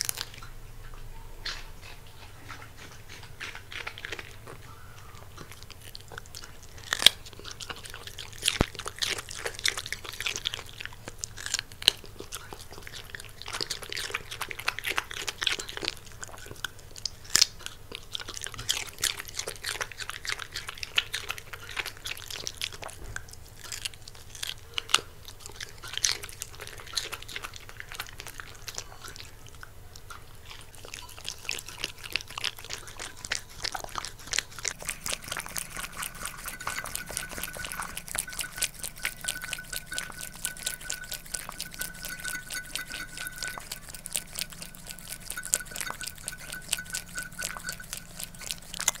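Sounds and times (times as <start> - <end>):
dog chewing: 0.0 - 49.0
dog licking: 0.0 - 49.0.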